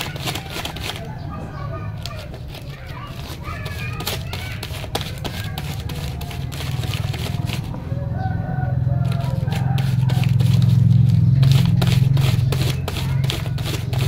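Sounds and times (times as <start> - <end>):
leaf scraping on wood: 0.0 - 1.1, 2.0 - 7.8, 9.0 - 14.0.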